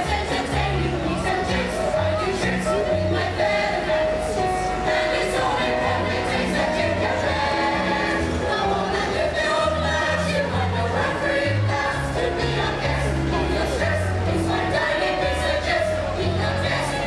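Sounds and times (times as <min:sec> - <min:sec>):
group singing: 0:00.0 - 0:17.0
instrumental backing with bass: 0:00.0 - 0:17.0.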